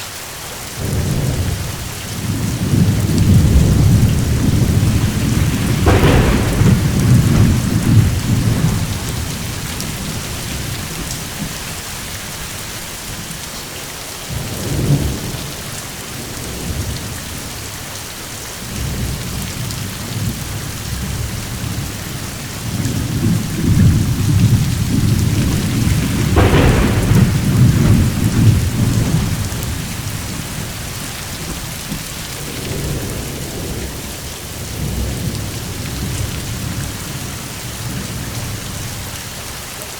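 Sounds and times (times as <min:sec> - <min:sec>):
steady rain: 0:00.0 - 0:39.9
rolling thunder: 0:00.8 - 0:13.4, 0:14.3 - 0:17.8, 0:18.6 - 0:39.4.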